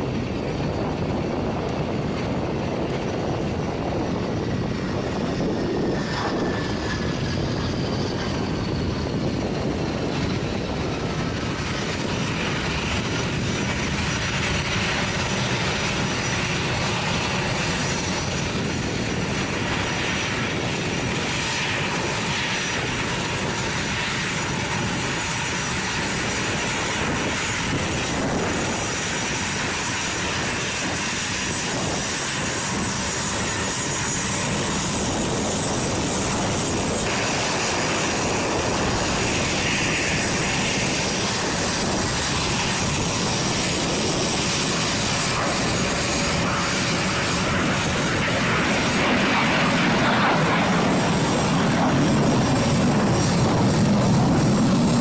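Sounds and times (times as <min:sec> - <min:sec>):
jet engines running with whine: 0:00.0 - 0:55.0.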